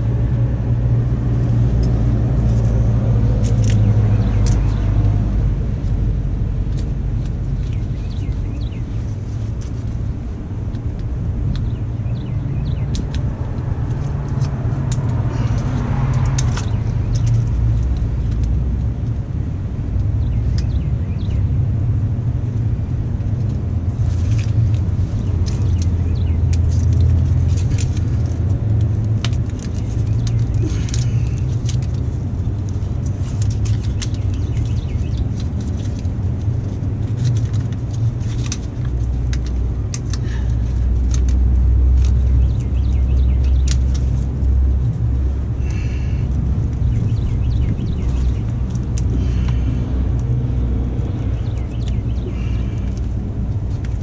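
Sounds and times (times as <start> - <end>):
steady low rumble: 0.0 - 54.0
hands handling cables and tape: 1.3 - 11.8, 12.7 - 19.2, 22.6 - 54.0.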